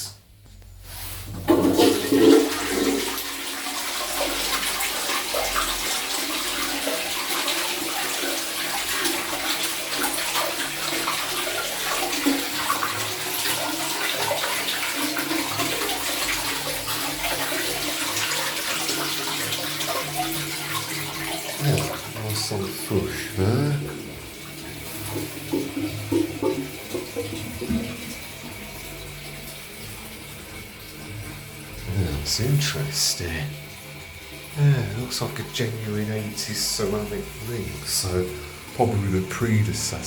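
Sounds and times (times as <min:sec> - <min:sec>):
toilet flushing: 0:00.0 - 0:40.0.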